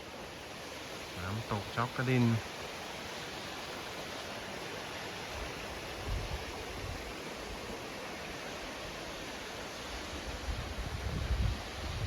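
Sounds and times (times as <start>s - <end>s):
waterfall roaring: 0.0s - 10.7s.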